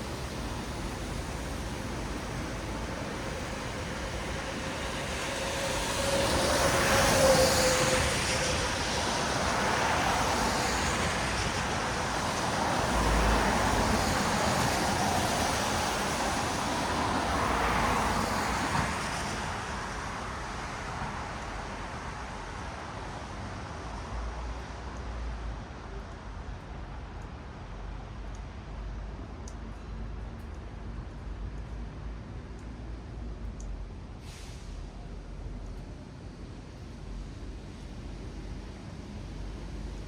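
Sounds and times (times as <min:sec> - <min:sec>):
tyres hissing on wet road: 0:00.0 - 0:26.5, 0:32.7 - 0:40.0.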